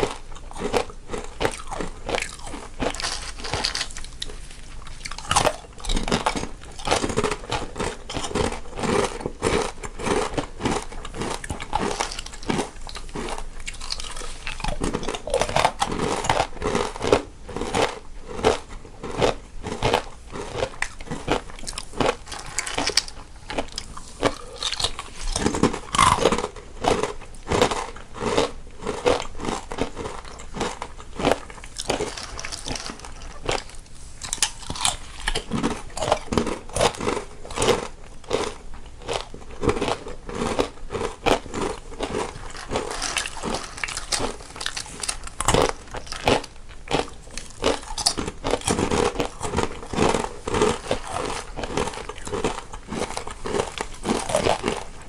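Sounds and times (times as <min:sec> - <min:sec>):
people crunching crisp snacks: 0:00.0 - 0:55.0.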